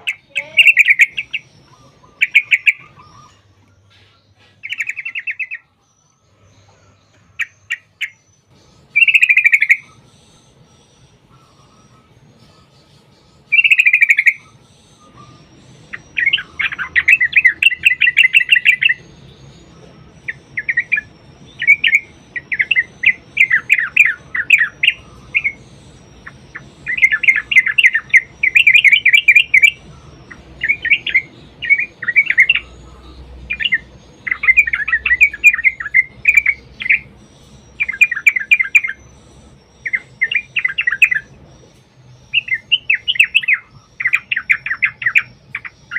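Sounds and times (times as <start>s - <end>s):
bird bubbling chattering song: 0.0s - 5.7s, 7.2s - 12.4s, 13.0s - 45.9s.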